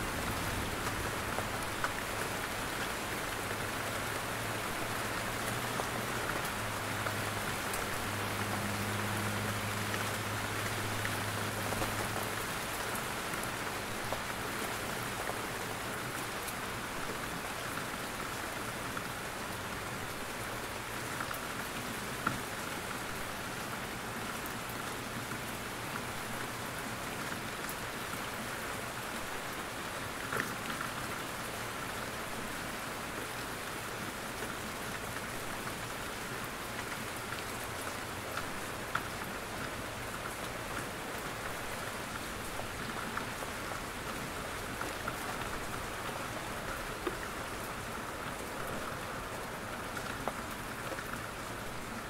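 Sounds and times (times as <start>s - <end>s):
rain pattering on leaves: 0.0s - 52.0s.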